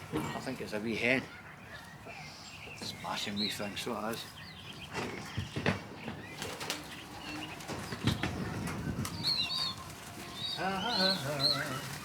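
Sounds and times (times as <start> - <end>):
young pigeons squeaking: 0.4 - 12.0.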